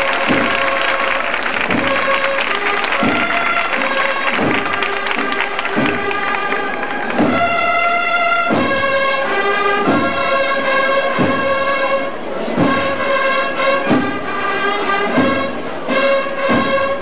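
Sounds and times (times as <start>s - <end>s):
brass band playing a march: 0.0s - 17.0s.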